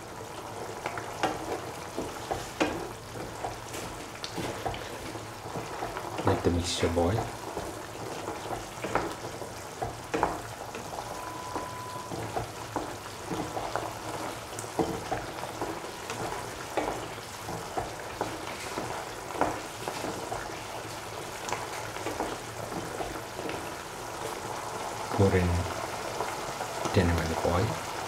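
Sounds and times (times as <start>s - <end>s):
stew sizzling and bubbling: 0.0s - 28.0s.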